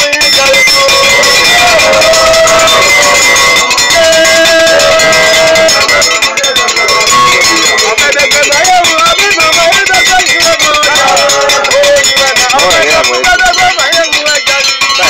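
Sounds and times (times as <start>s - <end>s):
voices singing long notes: 0.0s - 15.0s
dense percussion strikes: 0.8s - 15.0s.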